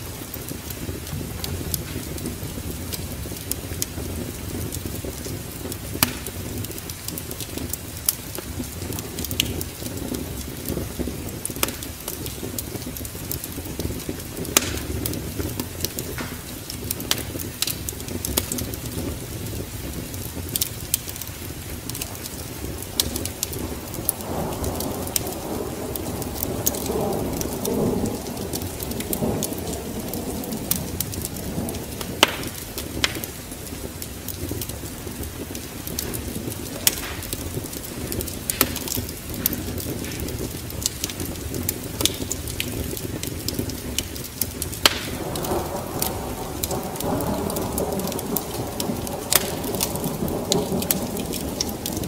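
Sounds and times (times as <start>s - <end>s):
rain and wind rumble: 0.0s - 52.0s
wood fire crackling and popping: 0.0s - 52.0s.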